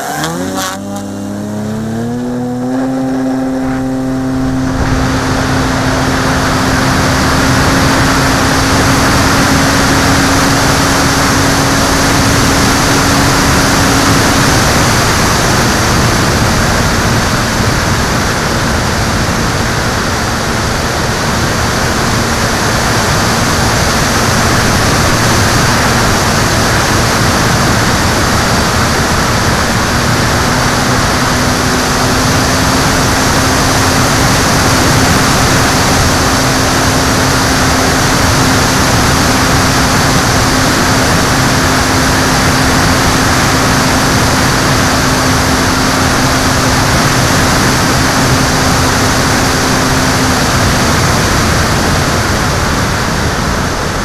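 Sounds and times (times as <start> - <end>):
boat engine droning: 0.0 - 54.0
rush of wind and water: 1.6 - 54.0.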